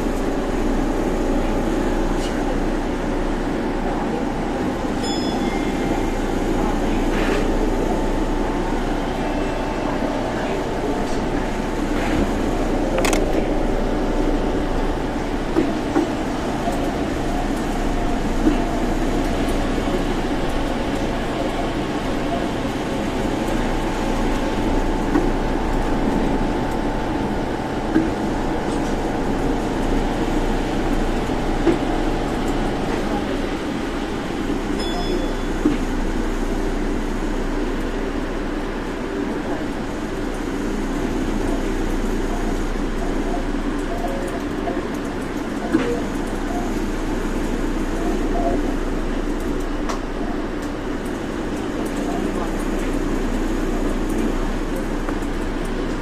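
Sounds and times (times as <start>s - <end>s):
monorail train running rumble: 0.0s - 56.0s
multi-tone hum: 0.0s - 56.0s.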